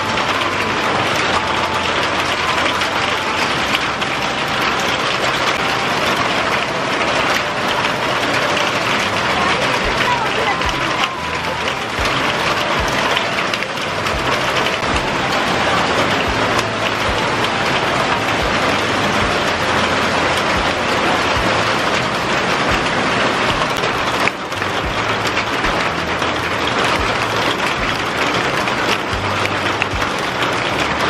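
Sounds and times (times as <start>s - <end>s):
hail and rain pelting: 0.0s - 31.0s.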